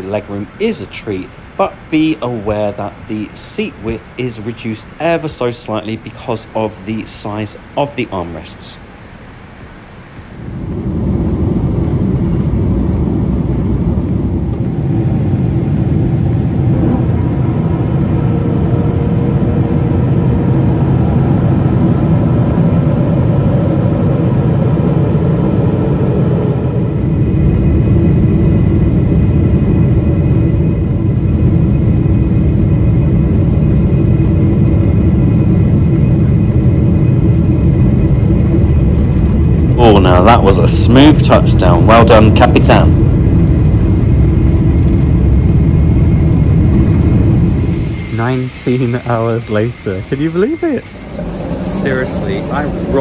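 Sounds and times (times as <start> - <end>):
aircraft cabin air rush: 0.0 - 53.0
jet engines humming: 0.0 - 53.0.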